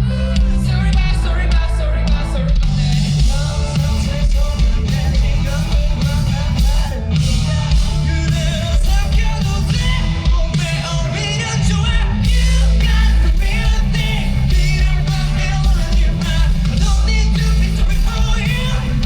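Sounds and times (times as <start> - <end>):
bass: 0.0 - 19.0
distorted guitars: 0.0 - 19.0
drums: 0.0 - 19.0
person singing: 0.0 - 19.0.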